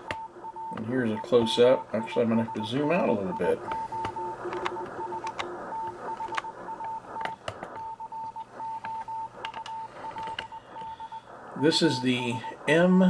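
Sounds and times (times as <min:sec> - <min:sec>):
morse code tone over radio: 0:00.0 - 0:13.0.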